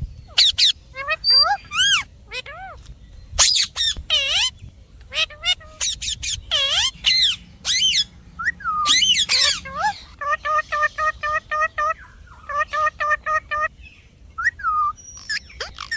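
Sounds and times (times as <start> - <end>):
parrot screeching: 0.3 - 2.8, 3.4 - 4.5, 5.1 - 8.1, 8.7 - 13.7, 14.5 - 15.9.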